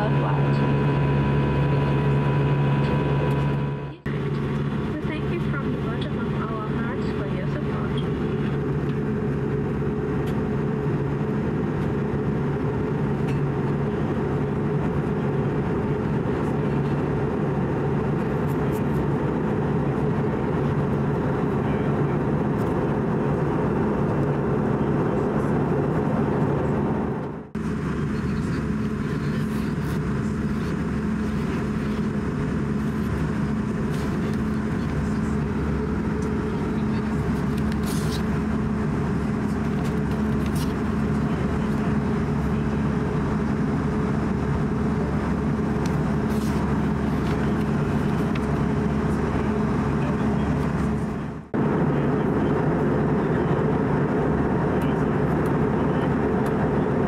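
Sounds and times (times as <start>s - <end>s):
airplane cabin drone: 0.0s - 57.0s
low steady hums: 0.0s - 57.0s.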